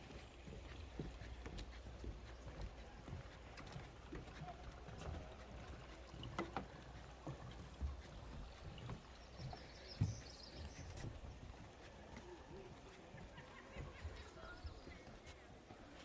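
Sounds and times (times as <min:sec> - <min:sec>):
footsteps on trail: 0:00.0 - 0:16.0.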